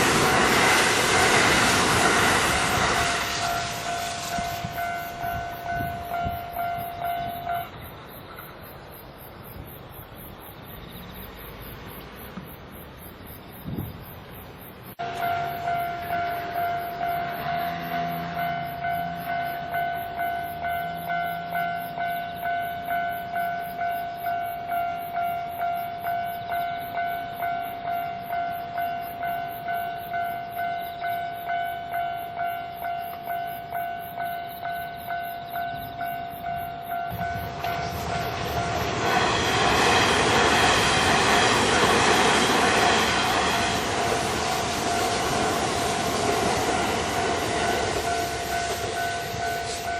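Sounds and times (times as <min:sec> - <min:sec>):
level crossing warning bell: 0:00.0 - 0:08.5, 0:15.0 - 0:49.9
train passing: 0:00.0 - 0:49.9.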